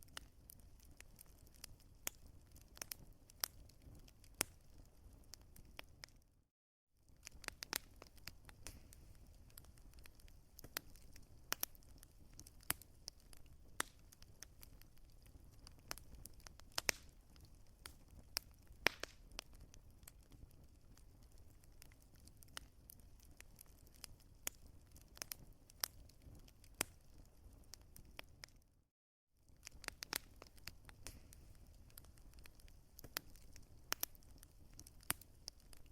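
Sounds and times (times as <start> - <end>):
wood fire crackling: 0.0 - 6.3, 7.1 - 28.7, 29.4 - 35.9.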